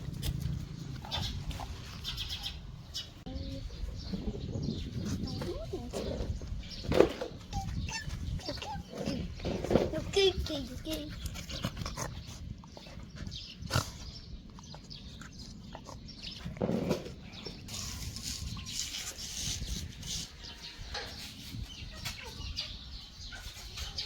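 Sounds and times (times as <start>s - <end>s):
animal sounds: 0.0s - 24.0s.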